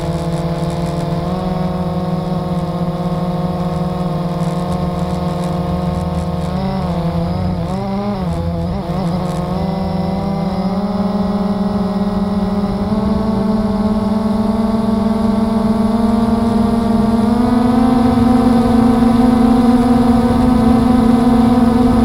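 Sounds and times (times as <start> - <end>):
quadcopter motors droning: 0.0 - 22.0.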